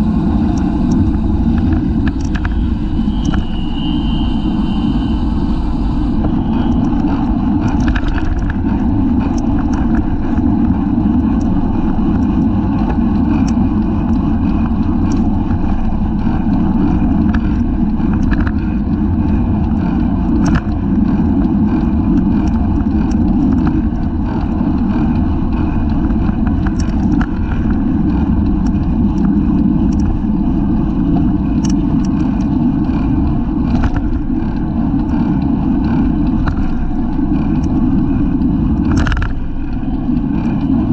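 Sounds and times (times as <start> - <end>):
small clicks and ticks: 0.0 - 40.9
wind rush over microphone: 0.0 - 40.9.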